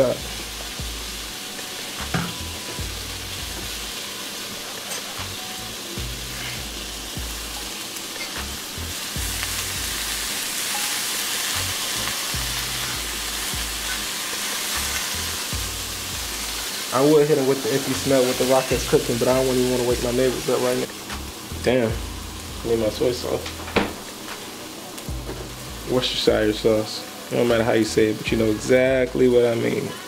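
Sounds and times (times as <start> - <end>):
food sizzling in a skillet: 0.0 - 30.0.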